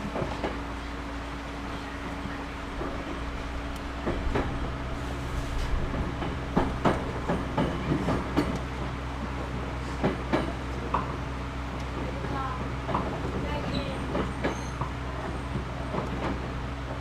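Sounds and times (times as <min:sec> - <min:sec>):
train hum: 0:00.0 - 0:17.0
wheels clacking over rail joints: 0:00.0 - 0:17.0.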